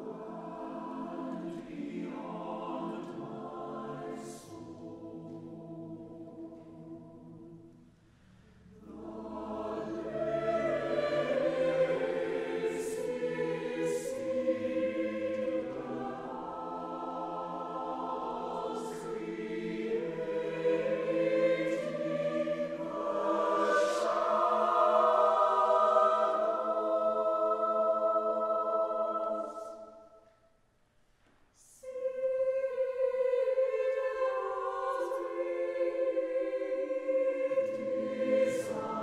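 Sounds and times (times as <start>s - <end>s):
choir singing sustained chords: 0.0s - 30.4s, 31.6s - 39.0s.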